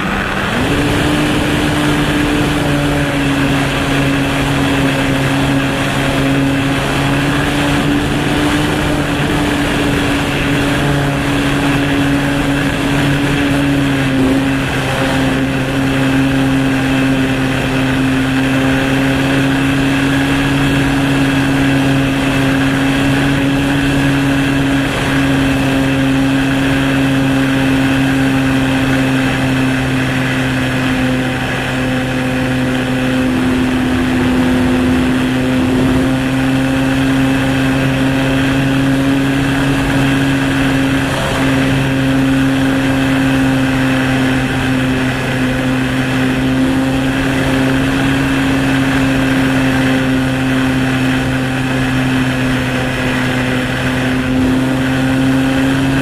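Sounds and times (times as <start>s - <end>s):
model aircraft motor humming: 0.0s - 56.0s
wind on microphone: 0.0s - 56.0s.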